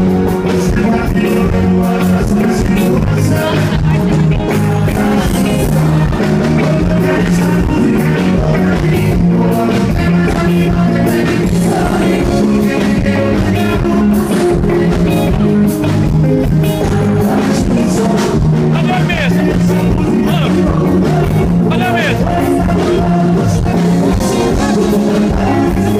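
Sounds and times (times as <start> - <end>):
man singing into a microphone: 0.0 - 15.7, 16.6 - 25.9
live band music through speakers: 0.0 - 25.9.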